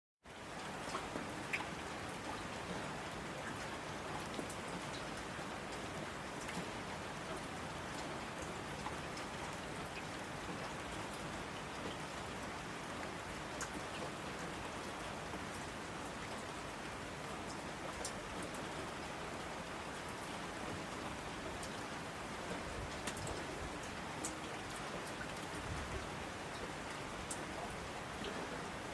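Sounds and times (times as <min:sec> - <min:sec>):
steady rain falling: 0:00.2 - 0:28.9.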